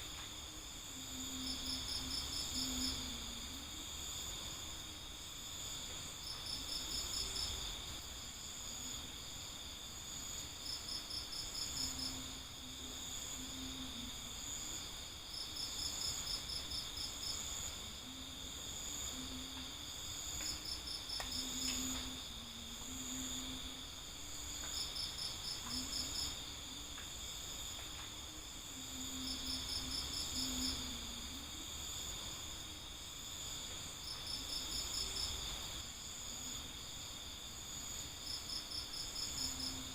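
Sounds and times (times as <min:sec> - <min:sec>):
cricket pulsed chirps: 0:00.0 - 0:39.9
cricket trilling: 0:00.0 - 0:39.9.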